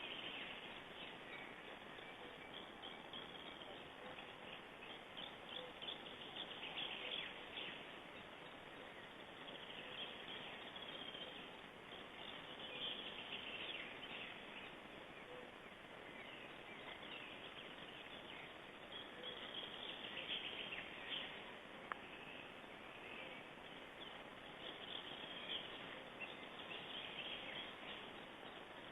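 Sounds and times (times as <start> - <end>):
small forest birds chirping: 0.0 - 28.9
steady background hiss: 0.0 - 28.9.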